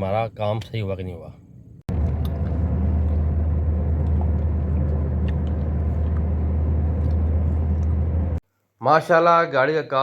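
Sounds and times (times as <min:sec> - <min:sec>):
car engine low rumble: 0:00.0 - 0:08.4.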